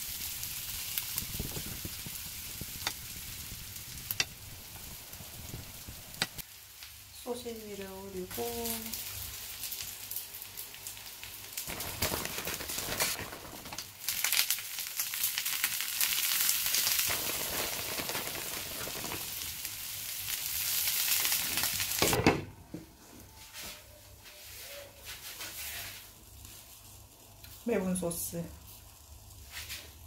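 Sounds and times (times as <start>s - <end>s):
food sizzling in a pan: 0.0s - 22.2s, 24.6s - 30.0s.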